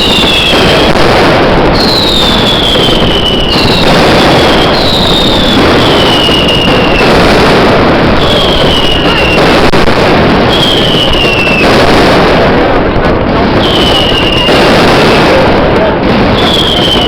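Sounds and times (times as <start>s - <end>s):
firecrackers crackling and banging: 0.0s - 17.0s
whistling fireworks: 0.0s - 17.0s.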